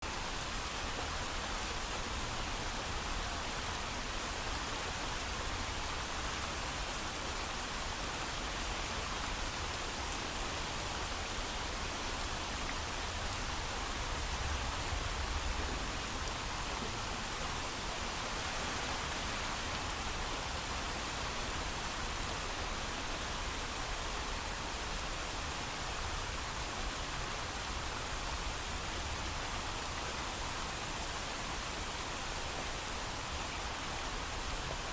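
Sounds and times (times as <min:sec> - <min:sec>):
heavy rainfall: 0:00.0 - 0:34.9.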